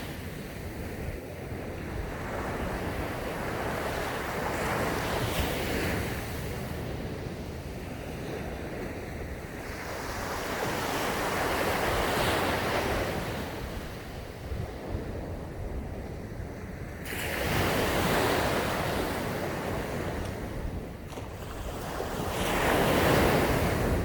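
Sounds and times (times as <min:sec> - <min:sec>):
ocean waves breaking on beach: 0:00.0 - 0:24.0
wind on microphone: 0:00.0 - 0:24.0.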